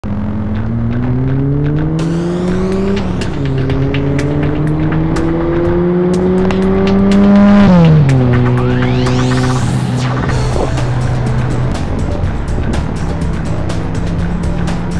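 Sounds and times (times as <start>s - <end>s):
car engine accelerating hard: 0.0s - 14.9s.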